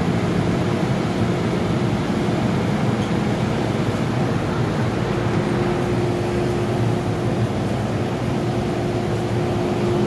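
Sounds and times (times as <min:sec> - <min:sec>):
train carriage hum with droning tone: 0:00.0 - 0:10.0.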